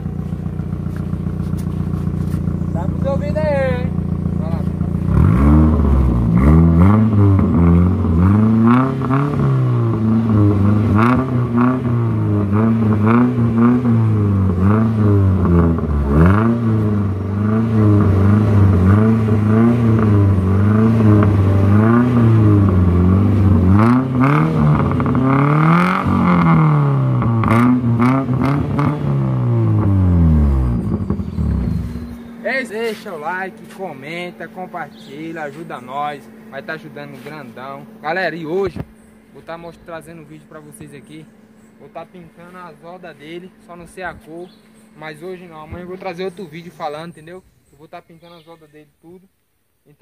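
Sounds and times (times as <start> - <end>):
car engine revving: 0.0 - 47.2.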